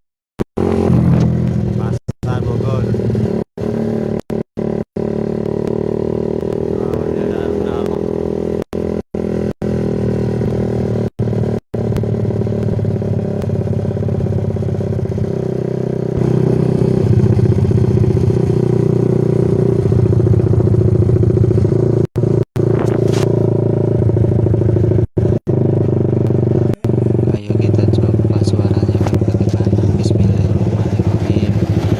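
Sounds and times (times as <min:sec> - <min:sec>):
motorcycle engine running: 0:00.4 - 0:31.9.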